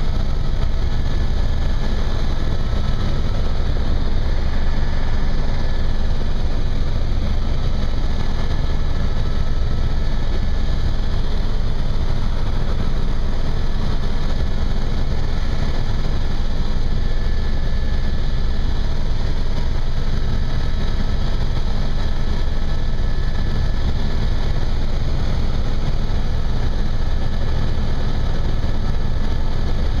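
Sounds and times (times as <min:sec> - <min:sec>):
faint high whine: 0:00.0 - 0:30.0
helicopter engine and rotor drone: 0:00.0 - 0:30.0.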